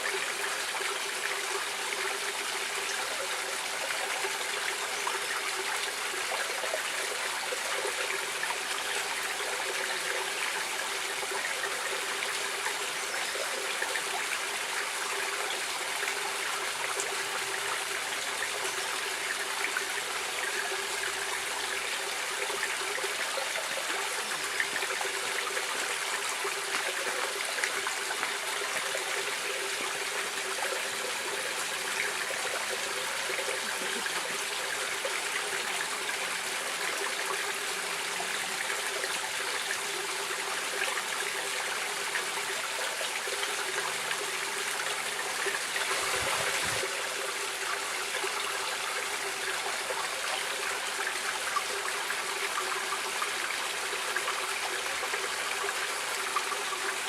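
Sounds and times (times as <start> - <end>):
stream of water trickling: 0.0 - 57.0.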